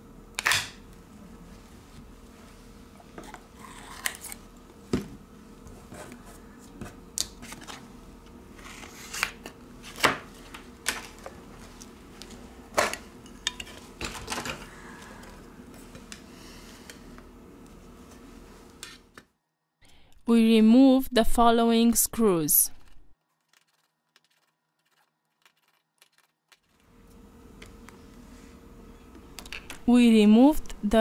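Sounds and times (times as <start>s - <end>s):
faint steady hum: 0.0s - 23.1s, 26.8s - 31.0s.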